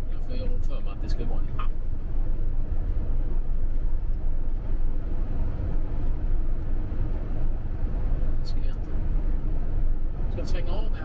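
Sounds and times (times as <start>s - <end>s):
campervan engine and road rumble: 0.0s - 11.0s.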